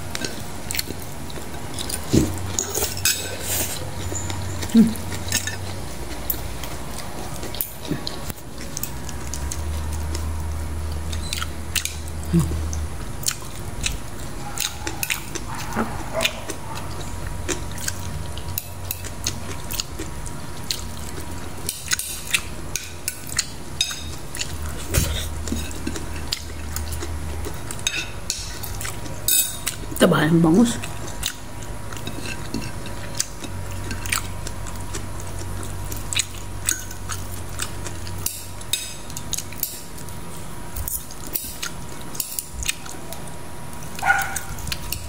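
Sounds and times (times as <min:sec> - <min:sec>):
person chewing food: 0:00.0 - 0:30.0, 0:30.8 - 0:45.0.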